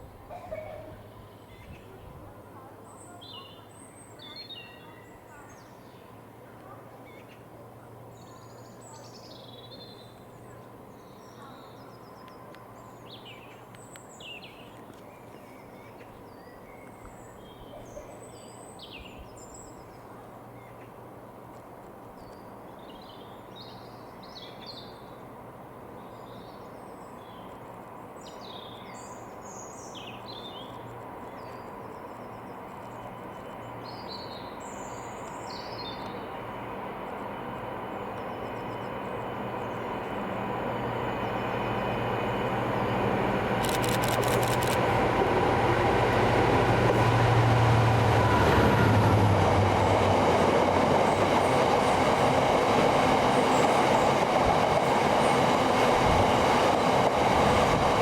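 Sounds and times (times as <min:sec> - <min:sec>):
freight train hum: 0:00.0 - 0:58.0.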